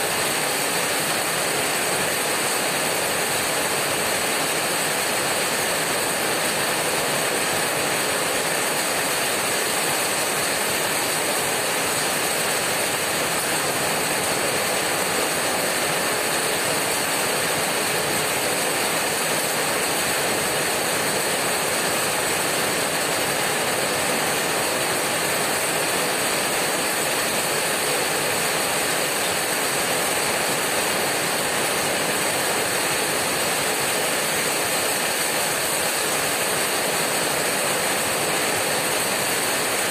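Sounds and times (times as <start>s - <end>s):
heavy rain on tin roof: 0.0s - 39.9s.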